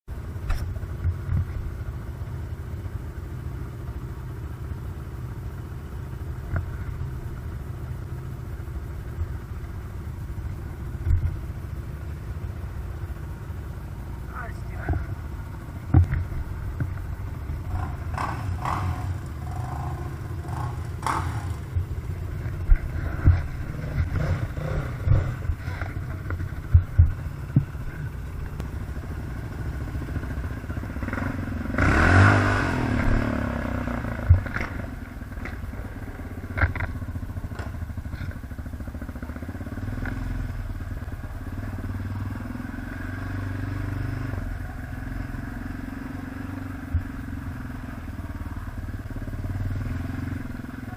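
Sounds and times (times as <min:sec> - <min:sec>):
atv engine running: 0:00.1 - 0:50.9.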